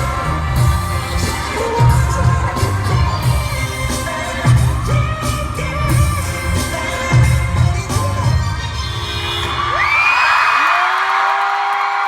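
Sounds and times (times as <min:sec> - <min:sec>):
amplified pop backing track: 0:00.0 - 0:10.0
crowd screaming and cheering: 0:00.0 - 0:12.0.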